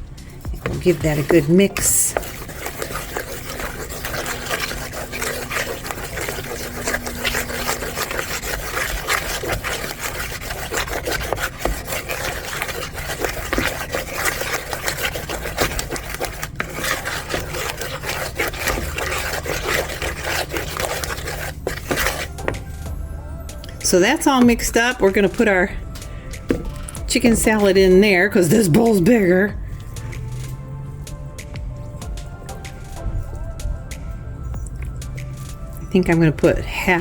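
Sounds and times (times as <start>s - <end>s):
salad stirred in a bowl: 0.0s - 37.0s.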